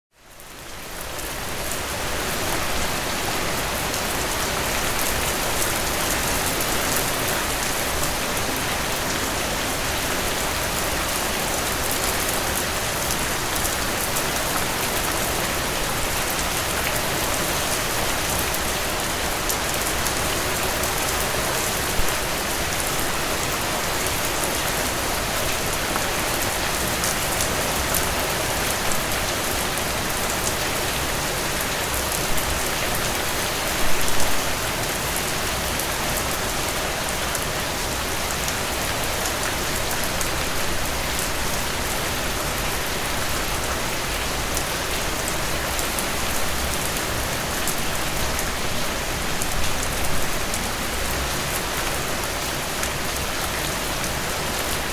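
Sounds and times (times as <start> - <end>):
heavy rain pouring: 0.2 - 54.9.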